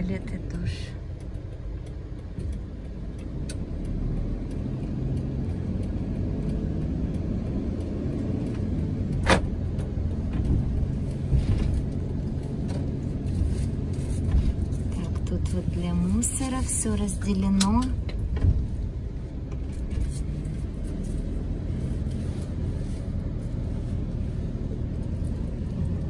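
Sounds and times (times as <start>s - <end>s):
vehicle engine and tyres: 0.0s - 26.0s.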